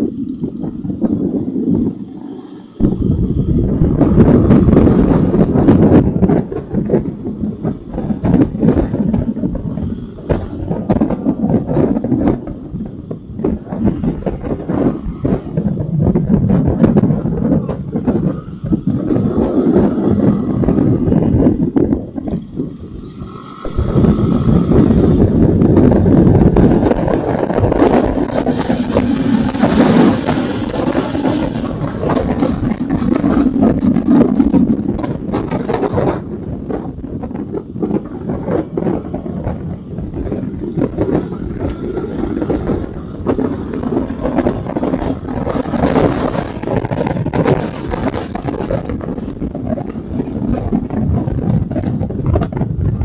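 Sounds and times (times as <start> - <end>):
motorcycle engine running hard: 0.0 - 53.0.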